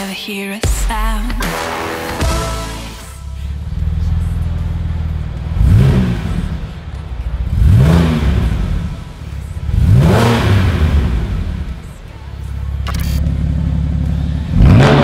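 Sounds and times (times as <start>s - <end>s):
car engine idling and revving: 0.6s - 15.0s.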